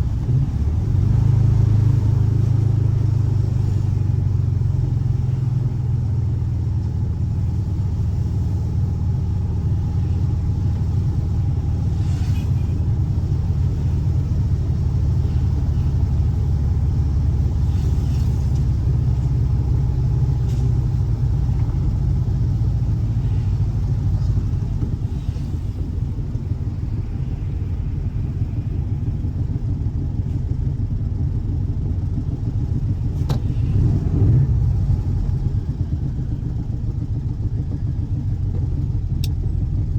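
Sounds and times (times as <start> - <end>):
car engine deep rumble: 0.0 - 39.9.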